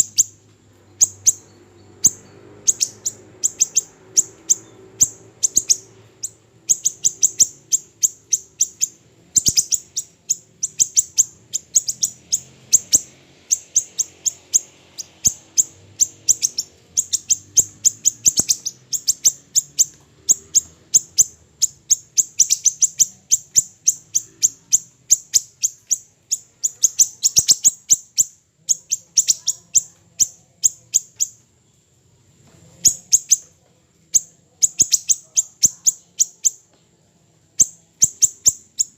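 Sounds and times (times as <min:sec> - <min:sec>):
songbird high-pitched chips: 0:00.0 - 0:31.8, 0:32.5 - 0:36.7, 0:37.4 - 0:38.9.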